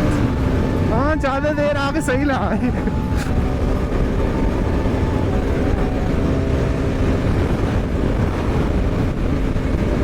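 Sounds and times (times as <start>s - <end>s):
road and wind noise rumble: 0.0s - 10.0s.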